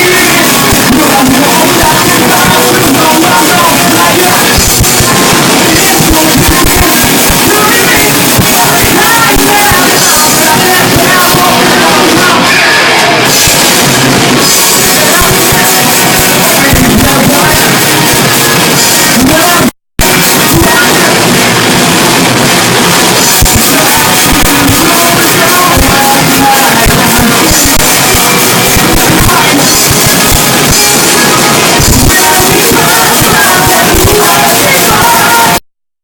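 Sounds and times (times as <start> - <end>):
live rock band playing: 0.0 - 35.6
person singing: 0.0 - 35.6
drums: 0.0 - 35.7.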